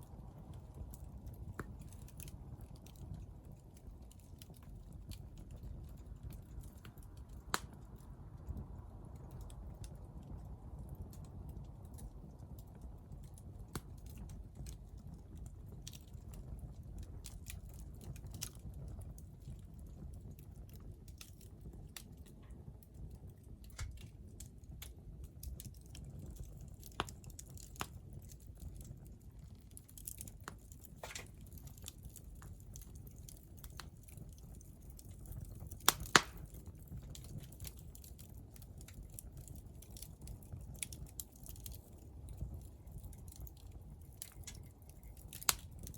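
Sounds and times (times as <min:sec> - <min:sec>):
low rumble of flame: 0:00.0 - 0:45.9
wood fire crackling and popping: 0:00.0 - 0:45.9.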